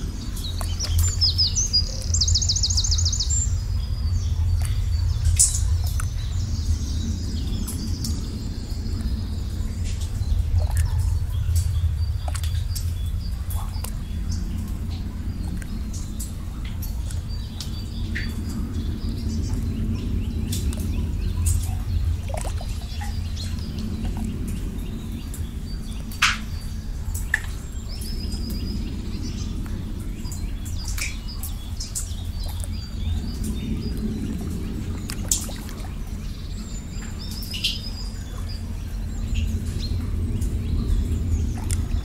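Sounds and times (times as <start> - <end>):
small birds chirping: 0.0 - 42.0
steady low rumble: 0.0 - 42.0.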